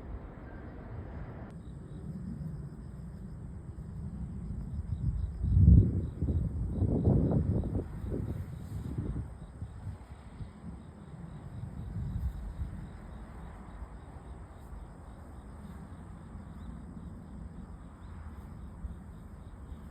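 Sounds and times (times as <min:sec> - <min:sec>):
steady low rumble: 0:00.0 - 0:19.9
faint insect chirping: 0:01.5 - 0:19.9.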